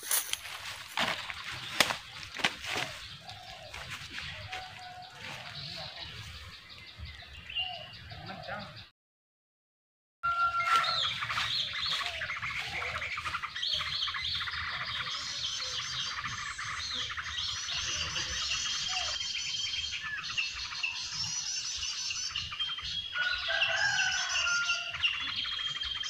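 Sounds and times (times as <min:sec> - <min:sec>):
small birds chirping and twittering: 0:00.1 - 0:08.9, 0:10.3 - 0:26.0.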